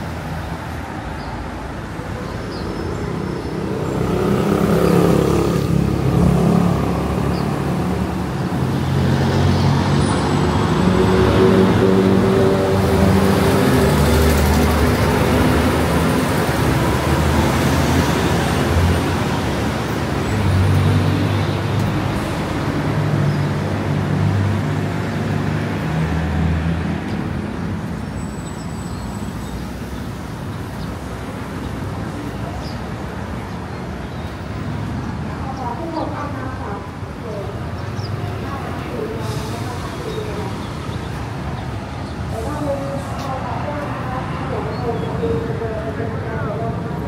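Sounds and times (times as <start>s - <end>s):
bus passing by: 0.0s - 47.0s
road traffic: 0.0s - 47.0s.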